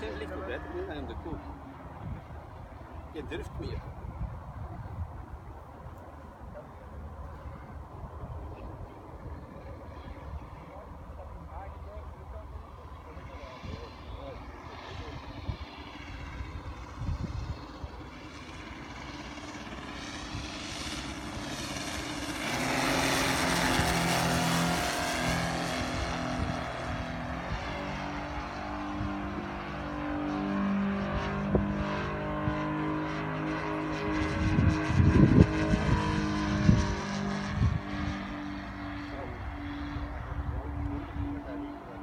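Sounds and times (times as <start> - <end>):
model plane engines droning: 0.0 - 42.0.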